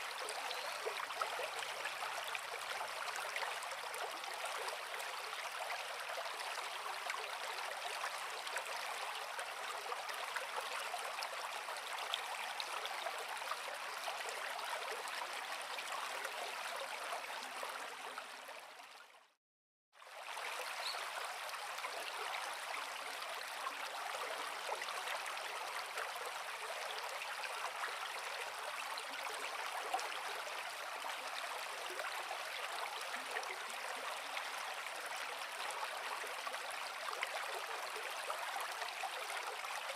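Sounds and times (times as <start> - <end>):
creek water flowing over rocks: 0.0 - 19.4, 20.0 - 39.9.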